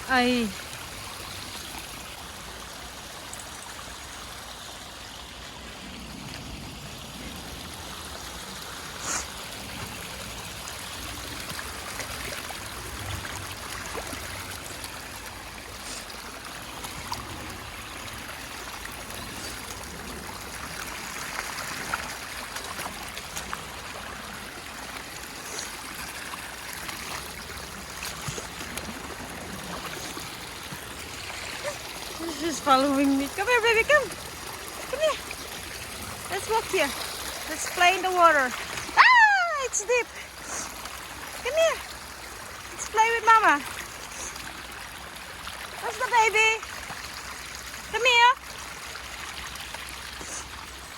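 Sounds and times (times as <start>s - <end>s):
stream rushing and trickling: 0.0s - 50.9s.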